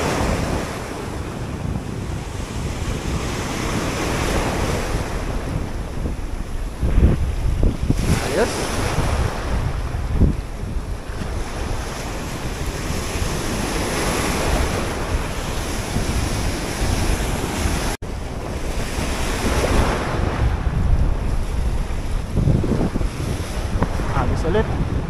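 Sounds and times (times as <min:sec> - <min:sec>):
sea surf washing over rocks: 0:00.0 - 0:25.0
wind buffeting microphone: 0:00.0 - 0:25.0.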